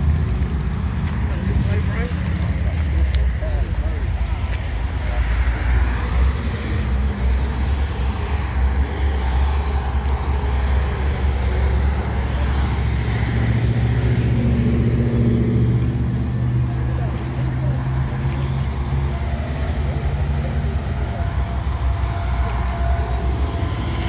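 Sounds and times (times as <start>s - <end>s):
car engine low drone: 0.0s - 24.0s
higher steady drone: 1.0s - 24.0s.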